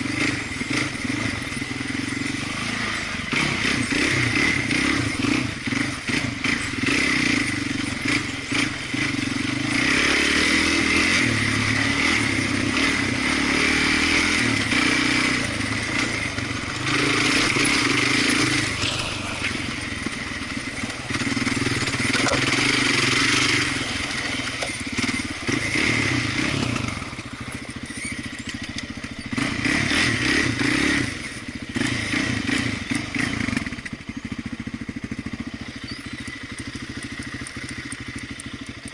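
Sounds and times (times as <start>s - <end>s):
off-road vehicle engine revving: 0.0s - 38.9s
rattling over rough trail: 0.0s - 38.9s.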